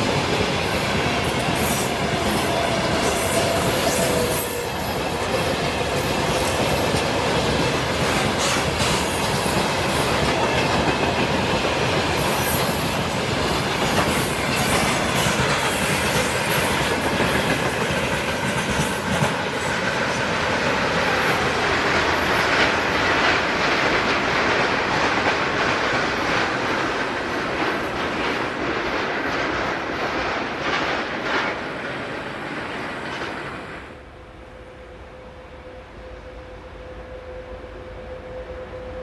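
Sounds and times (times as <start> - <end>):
train wheels clacking on rails: 0.0 - 34.0.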